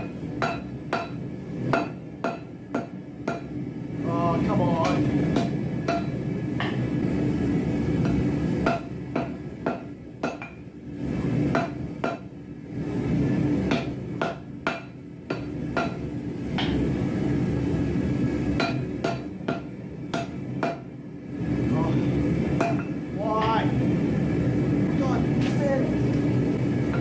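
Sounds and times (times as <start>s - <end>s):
hammer striking hot steel: 0.0s - 12.4s, 13.5s - 21.0s, 22.0s - 23.8s, 24.5s - 27.0s.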